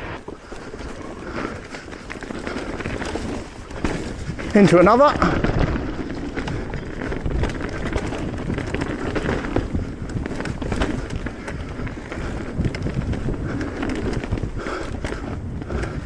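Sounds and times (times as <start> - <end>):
bike rattles and clicks: 0.0 - 16.0
bike tyre noise on rough trail: 0.0 - 16.0
wind on microphone: 0.0 - 16.0.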